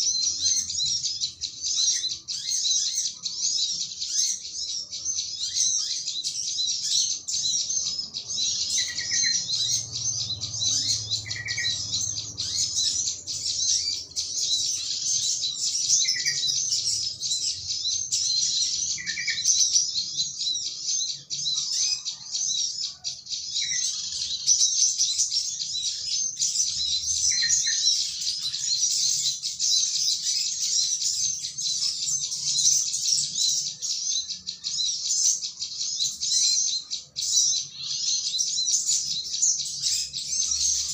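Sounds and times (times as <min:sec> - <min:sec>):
small birds chattering and chirping: 0:00.0 - 0:40.9.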